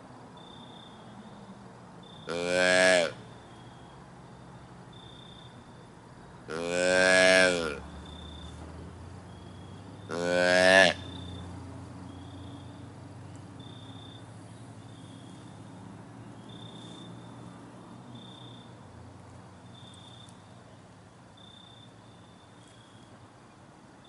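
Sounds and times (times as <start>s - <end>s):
cricket chirping: 0.0s - 24.0s.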